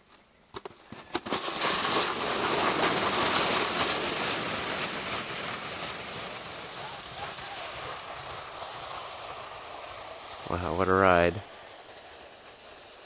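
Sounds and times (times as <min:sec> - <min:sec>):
sled scraping over snow: 0:00.5 - 0:13.0.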